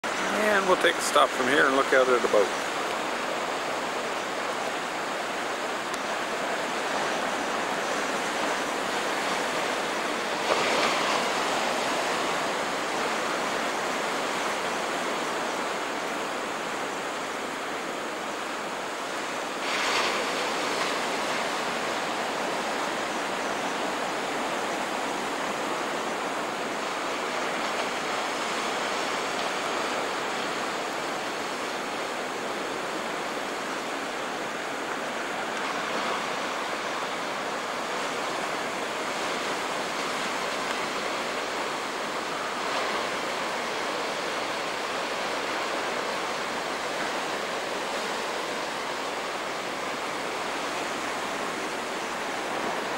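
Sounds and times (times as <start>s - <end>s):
ocean surf washing ashore: 0.0s - 52.9s.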